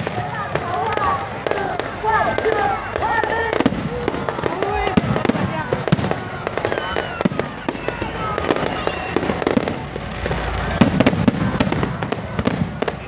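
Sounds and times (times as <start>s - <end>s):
festival crowd din: 0.0s - 13.0s.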